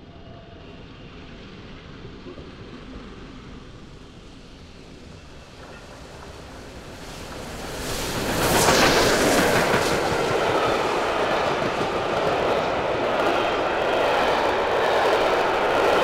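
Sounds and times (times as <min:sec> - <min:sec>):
steam locomotive passing at speed: 0:00.0 - 0:16.0
train coaches rolling past: 0:00.0 - 0:16.0.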